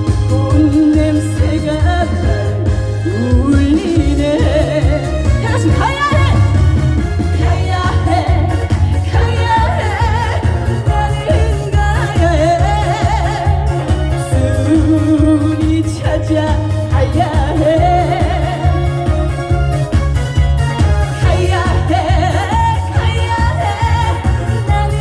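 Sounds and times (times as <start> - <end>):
woman singing: 0.0 - 19.7, 20.6 - 25.0
loud backing music with bass: 0.0 - 25.0.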